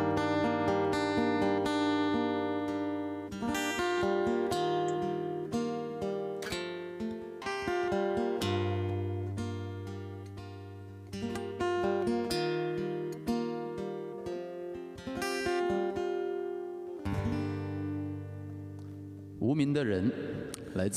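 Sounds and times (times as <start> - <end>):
acoustic guitar chords: 0.0 - 20.9.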